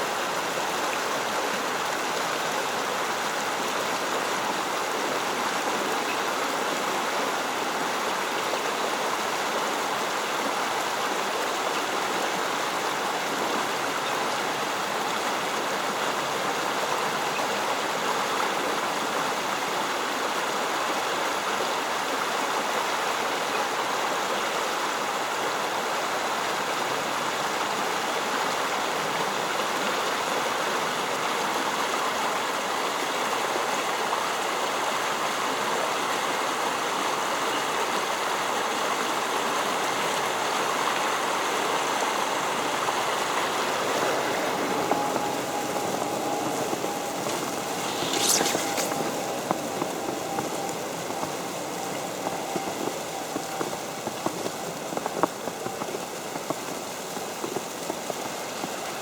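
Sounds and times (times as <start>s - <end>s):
creek water flowing: 0.0s - 59.0s.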